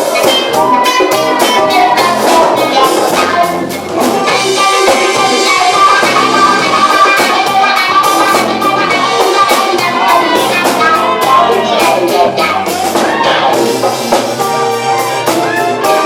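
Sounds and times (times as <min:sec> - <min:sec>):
drum kit playing: 0:00.0 - 0:16.0
electric guitar: 0:00.0 - 0:16.0.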